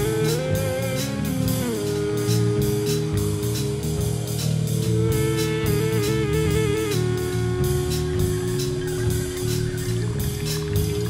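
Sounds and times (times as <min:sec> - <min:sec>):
bass line: 0:00.0 - 0:11.0
drum kit steady beat: 0:00.0 - 0:11.0
wavering sustained lead tone: 0:00.0 - 0:11.0.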